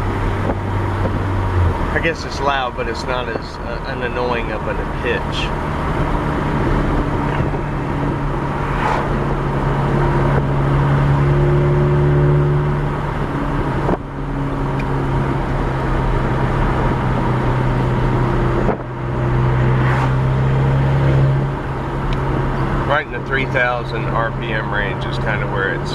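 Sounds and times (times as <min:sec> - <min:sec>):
car engine droning: 0:00.0 - 0:25.9.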